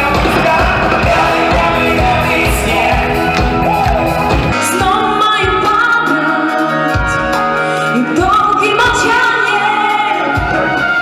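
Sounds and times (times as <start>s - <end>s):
live band playing: 0.0s - 11.0s
person singing: 0.0s - 11.0s.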